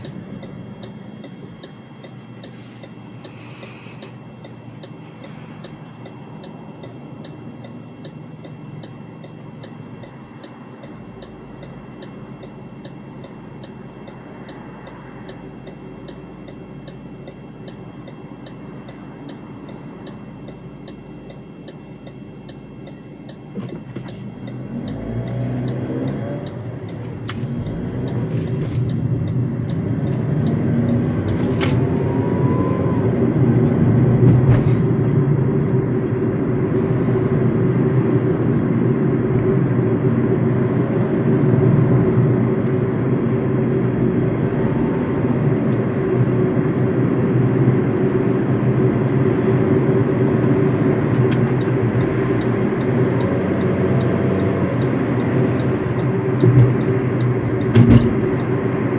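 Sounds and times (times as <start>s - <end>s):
turn indicator ticking: 0.0s - 47.0s, 49.2s - 58.9s
car engine accelerating: 0.0s - 58.9s.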